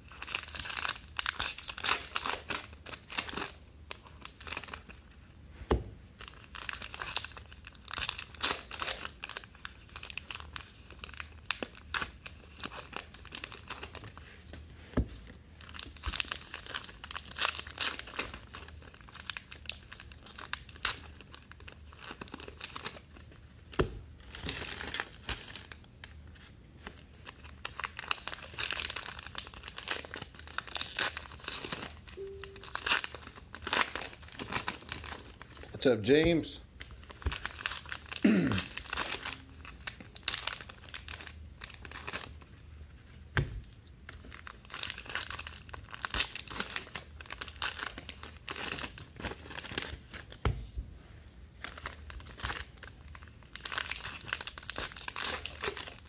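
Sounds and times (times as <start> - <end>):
foil wrappers tearing and crinkling: 0.0 - 5.0, 6.2 - 14.3, 15.6 - 42.6, 43.8 - 50.4, 51.6 - 56.0.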